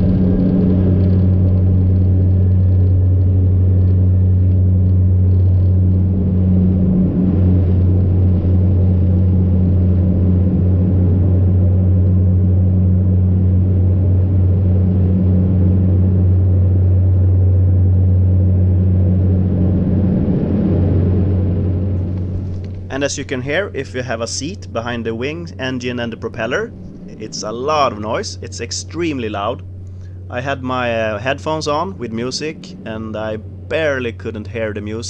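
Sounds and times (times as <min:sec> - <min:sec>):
turboprop cabin drone: 0:00.0 - 0:35.0.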